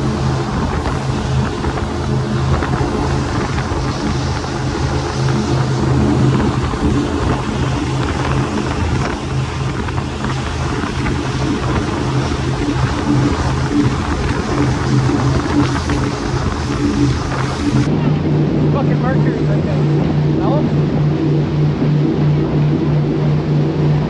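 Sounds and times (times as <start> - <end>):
powerboat engines droning: 0.0 - 24.0
wind and water rushing: 0.0 - 24.0.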